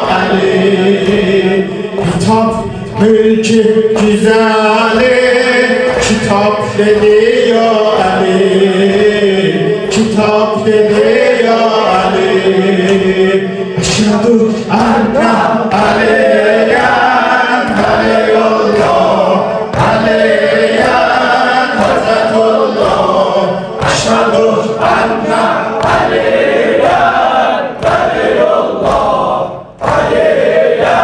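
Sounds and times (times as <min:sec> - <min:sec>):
group of voices chanting: 0:04.9 - 0:13.9, 0:14.7 - 0:31.0.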